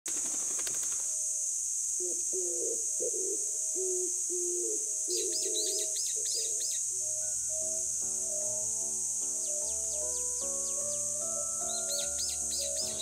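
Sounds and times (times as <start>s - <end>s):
cicadas droning: 0.1s - 13.0s.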